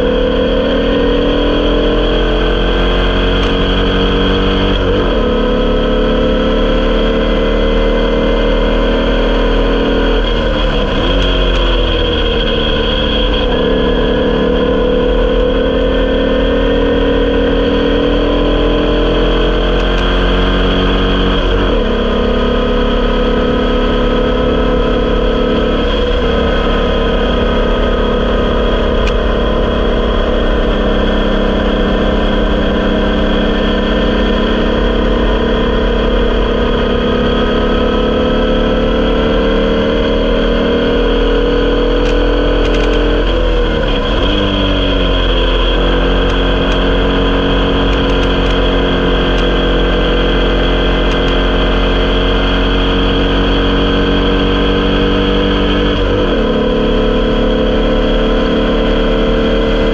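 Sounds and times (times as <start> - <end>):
race car engine revving: 0.0 - 59.9
wind and road noise: 0.0 - 59.9.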